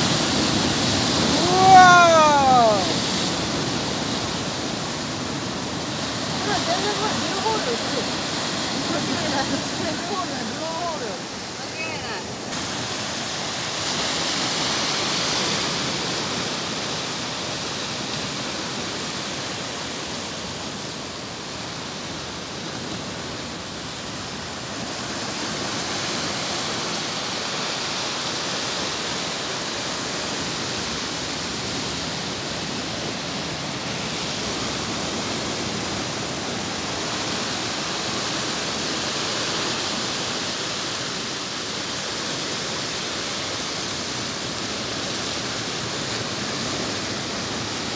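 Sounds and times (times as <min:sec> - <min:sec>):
waves surging against rocks: 0:00.0 - 0:47.9.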